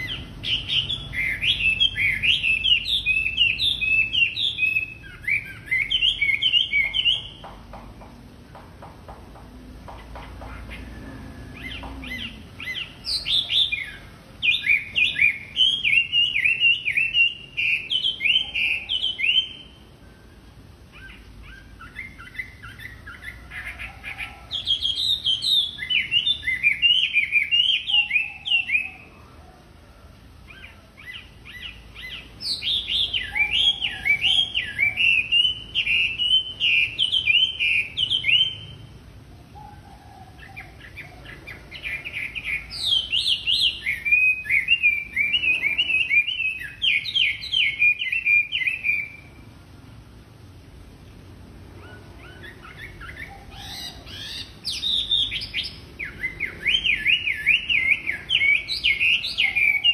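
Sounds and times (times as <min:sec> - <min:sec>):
bird singing whistled notes: 0:00.0 - 0:07.5, 0:10.4 - 0:29.2, 0:30.5 - 0:38.9, 0:39.6 - 0:49.5, 0:51.8 - 0:59.9.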